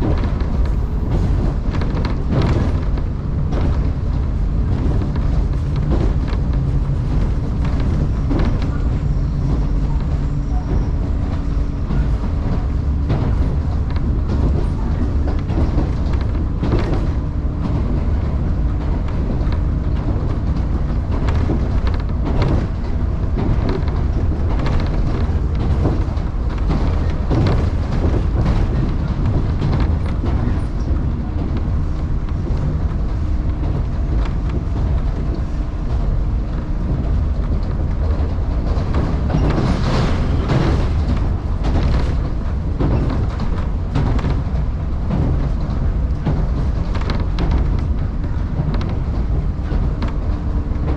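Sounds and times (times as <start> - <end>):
train rumbling: 0.0 - 50.9
wheels clacking over rail joints: 0.0 - 50.9.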